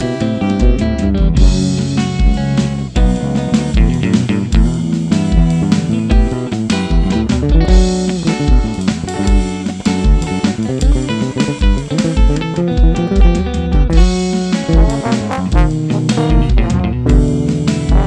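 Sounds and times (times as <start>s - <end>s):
kick drum beat: 0.0s - 18.0s
live band playing: 0.0s - 18.0s.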